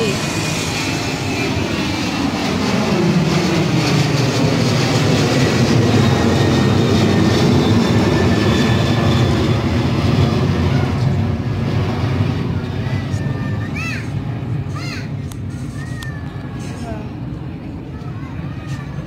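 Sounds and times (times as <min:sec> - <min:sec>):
jet airliner engines rumbling: 0:00.0 - 0:19.0.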